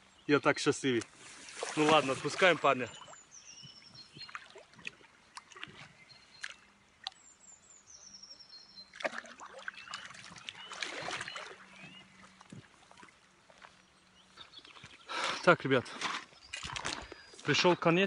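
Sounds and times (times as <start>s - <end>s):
birds singing: 0.0s - 18.0s
water splashing and trickling: 0.7s - 7.8s, 8.7s - 18.0s.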